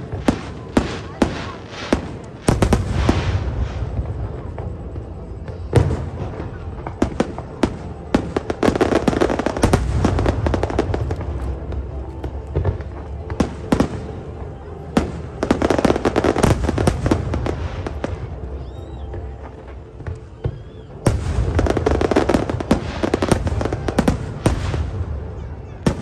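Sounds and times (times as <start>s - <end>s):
fireworks cracking and crackling: 0.0s - 26.0s.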